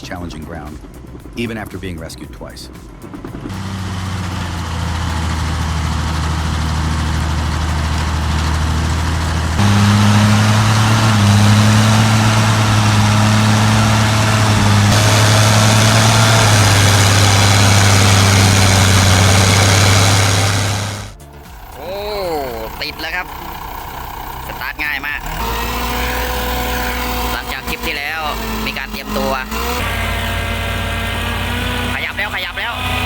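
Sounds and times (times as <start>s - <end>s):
construction machine diesel engine: 3.2s - 33.0s.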